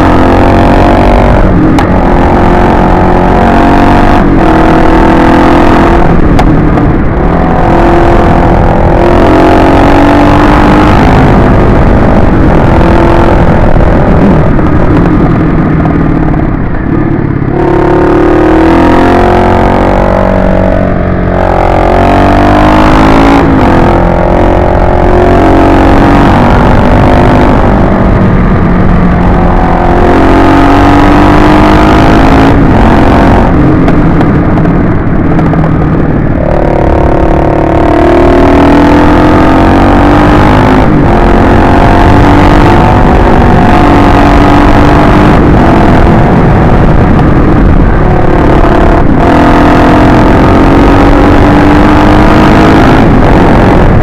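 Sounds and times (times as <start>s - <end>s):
motorcycle engine revving: 0.0s - 54.0s
wind rushing on microphone: 0.0s - 54.0s.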